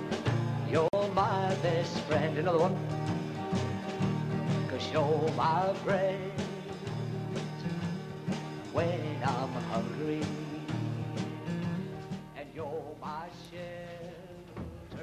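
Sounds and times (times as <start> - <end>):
country song with singing: 0.0 - 15.0.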